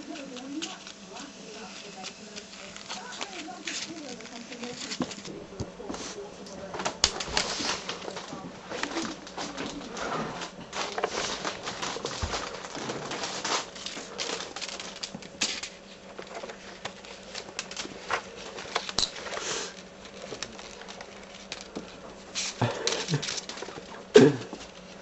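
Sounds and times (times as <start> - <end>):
kittens scampering: 0.0 - 25.0
paper skittering over tiled floor: 0.0 - 25.0.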